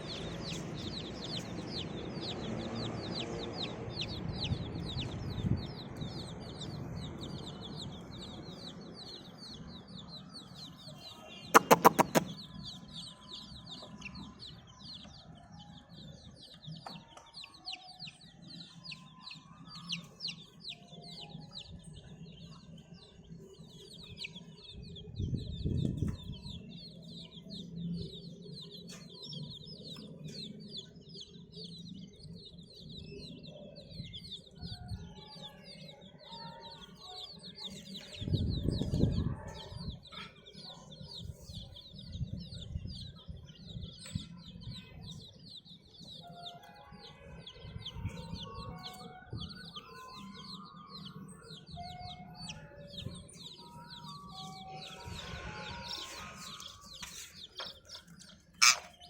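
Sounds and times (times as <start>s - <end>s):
baby chicks peeping: 0.0s - 59.0s.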